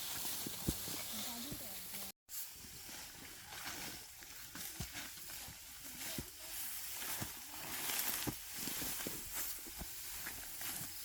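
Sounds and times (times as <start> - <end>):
dry stalks rustling and crackling: 0.0 - 11.0.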